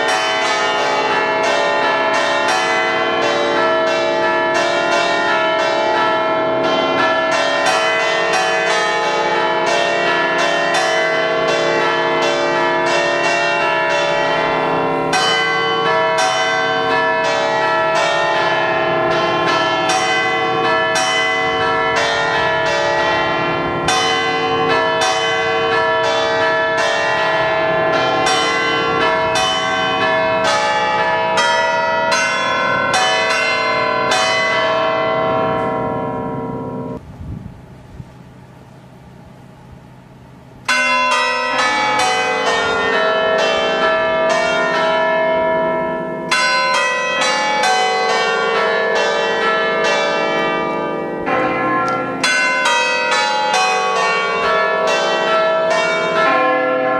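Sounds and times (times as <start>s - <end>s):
church bells playing a tune: 0.0s - 37.0s, 38.2s - 56.9s.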